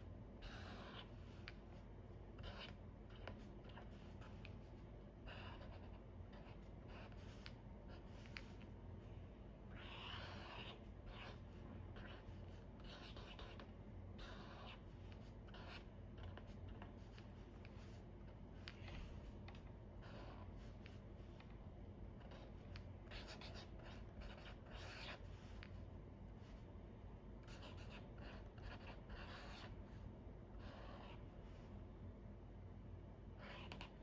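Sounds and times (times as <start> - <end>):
marker drawing on paper: 0.4 - 8.8, 9.7 - 19.3, 20.0 - 21.6, 22.2 - 25.8, 27.4 - 31.7, 33.4 - 34.0.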